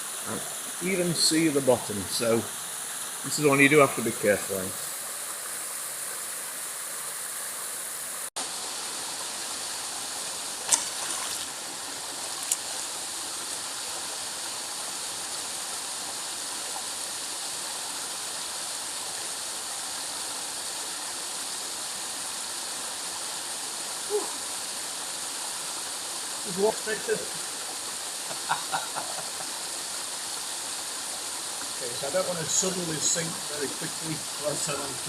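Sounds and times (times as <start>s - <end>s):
waterfall pouring into pool: 0.0s - 35.0s.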